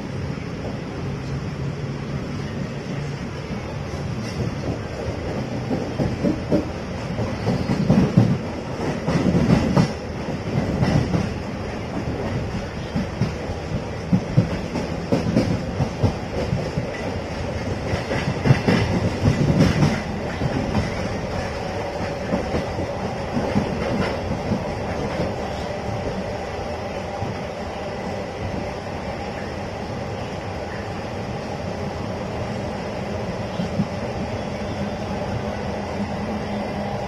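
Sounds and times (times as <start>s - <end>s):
train running on rails: 0.0s - 37.0s.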